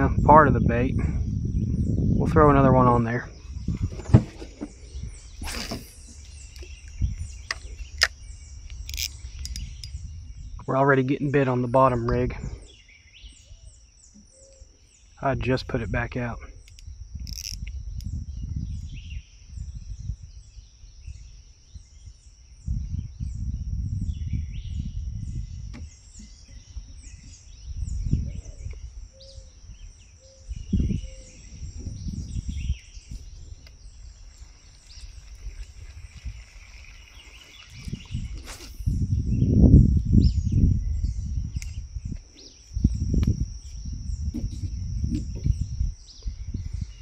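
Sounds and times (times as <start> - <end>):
low rumbling microphone noise: 0.0 - 14.0, 14.8 - 47.0
birds chirping: 0.0 - 47.0
high insect drone: 0.0 - 47.0.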